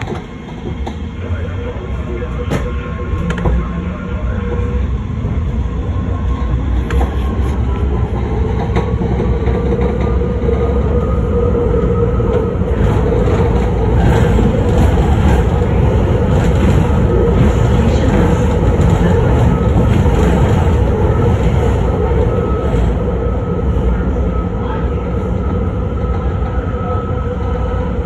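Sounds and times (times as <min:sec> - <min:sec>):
wheels rumbling on rail: 0:00.0 - 0:28.0.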